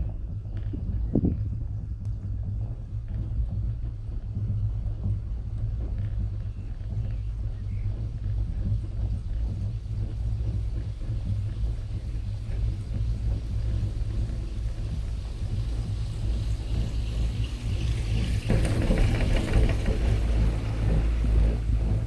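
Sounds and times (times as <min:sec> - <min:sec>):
cable car rumbling along cable: 0:00.0 - 0:22.0
faint clicks and rattles: 0:00.0 - 0:22.0.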